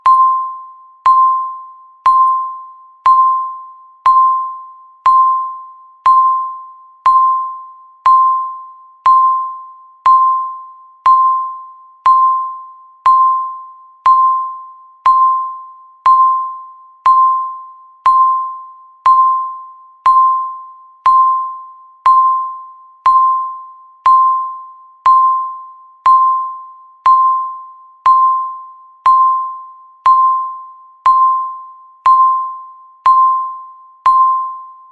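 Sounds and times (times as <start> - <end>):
countdown timer beeps: 0.0 - 34.9.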